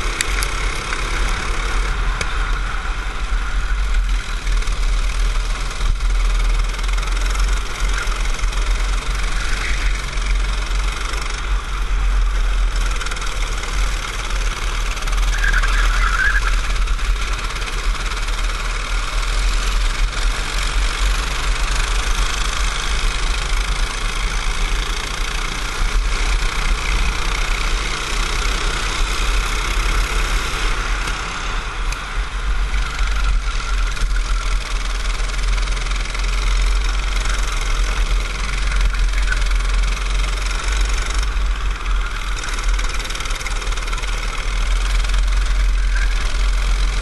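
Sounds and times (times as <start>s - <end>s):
kart engine running hard: 0.0s - 47.0s.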